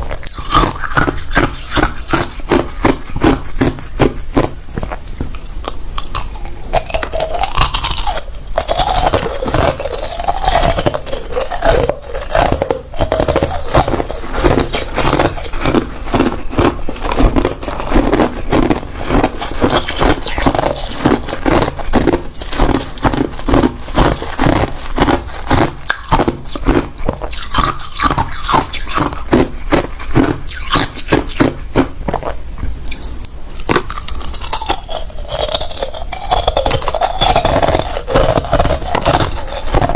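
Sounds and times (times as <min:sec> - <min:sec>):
ice cubes crunching in mouth: 0:00.0 - 0:39.9.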